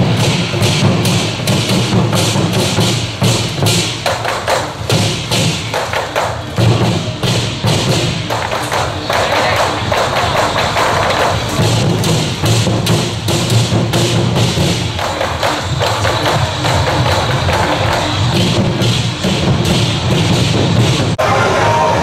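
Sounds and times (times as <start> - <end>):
barrel drums beaten with sticks: 0.0 - 21.2
hand cymbals clashing: 0.0 - 21.9.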